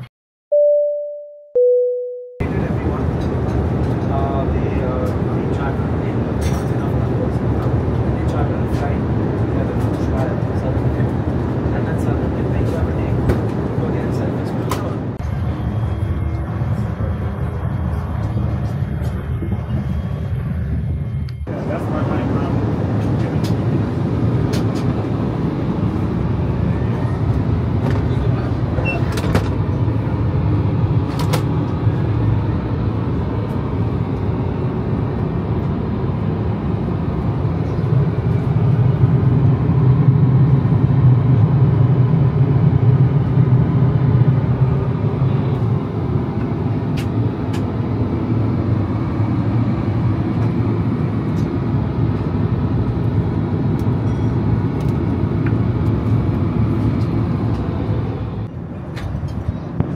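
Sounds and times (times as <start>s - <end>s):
aircraft cabin rumble: 2.4s - 59.9s.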